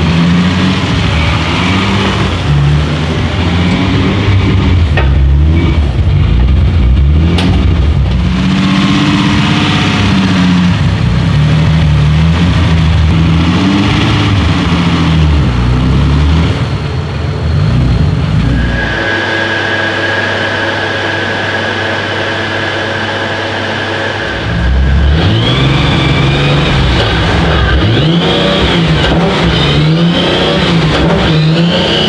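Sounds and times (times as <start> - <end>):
car engine revving loudly: 0.0 - 32.0.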